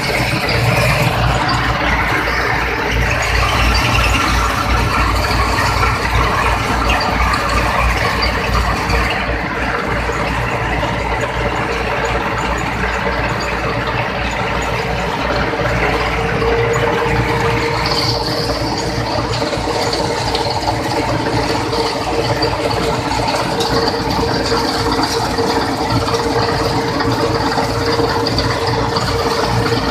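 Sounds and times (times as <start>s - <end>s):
combine harvester running: 0.0s - 29.9s.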